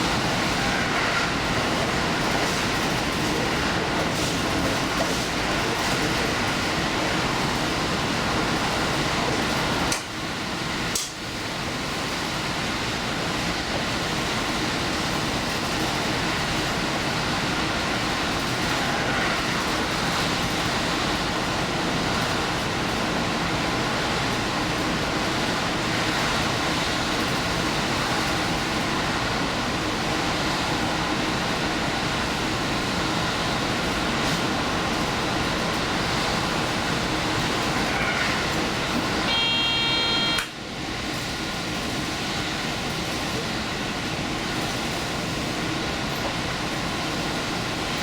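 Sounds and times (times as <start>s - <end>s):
diesel train rumbling on rails: 0.0s - 48.0s.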